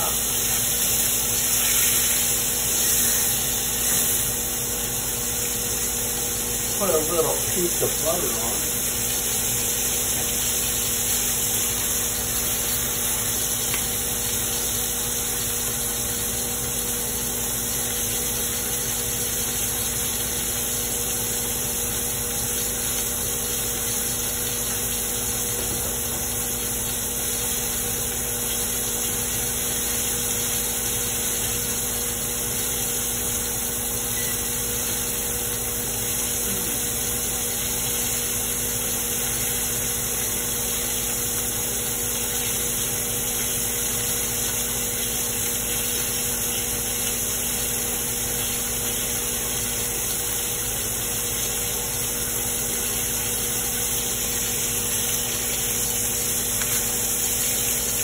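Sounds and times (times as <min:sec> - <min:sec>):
low mechanical hum: 0:00.0 - 0:58.0
steak sizzling in pan: 0:00.0 - 0:58.0.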